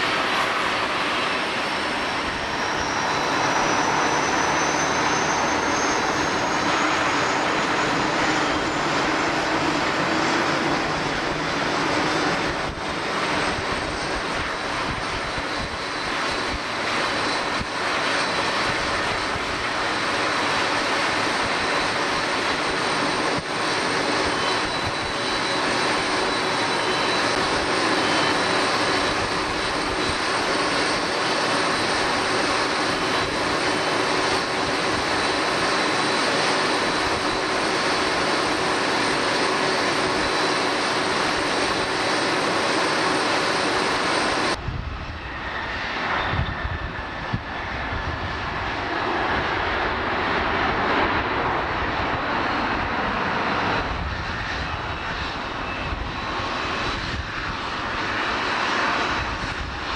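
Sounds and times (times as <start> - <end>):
airliner engines whining: 0.0 - 59.9.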